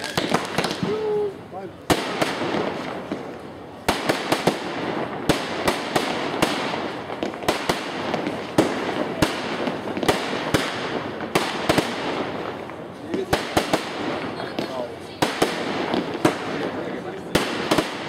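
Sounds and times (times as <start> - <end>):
firework bangs: 0.0 - 18.0
firework crackling: 0.0 - 18.0.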